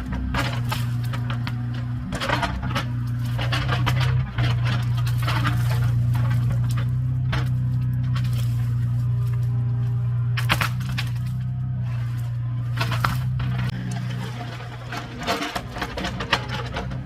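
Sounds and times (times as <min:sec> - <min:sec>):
diesel engine running: 0:00.0 - 0:17.0
wood cracking and snapping: 0:00.0 - 0:17.0.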